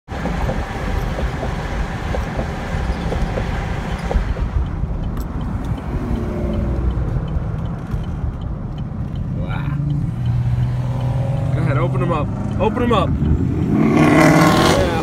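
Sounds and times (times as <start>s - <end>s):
truck road and engine rumble: 0.0s - 15.0s.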